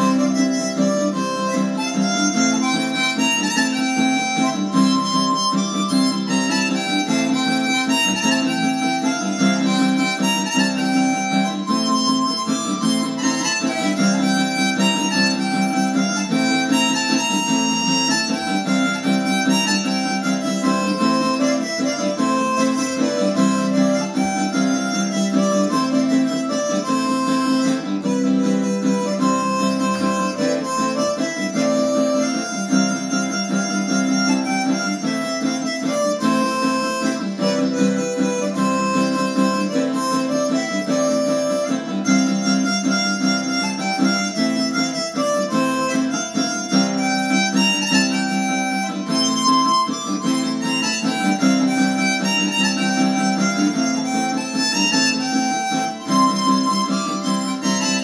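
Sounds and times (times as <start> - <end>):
acoustic guitar strumming: 0.0 - 58.0
harmonica melody: 0.0 - 58.0.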